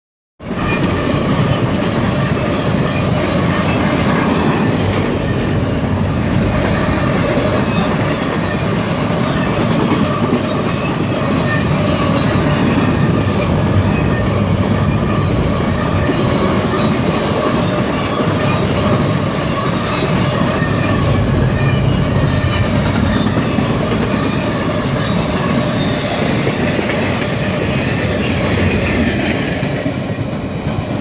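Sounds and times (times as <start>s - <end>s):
steel wheels rumbling on rail: 0.4s - 31.0s.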